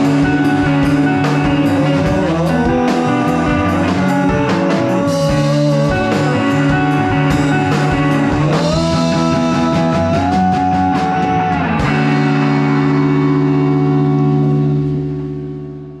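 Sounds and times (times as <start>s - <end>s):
electric guitar note sliding up: 0.0s - 16.0s
rock band playing live: 0.0s - 16.0s.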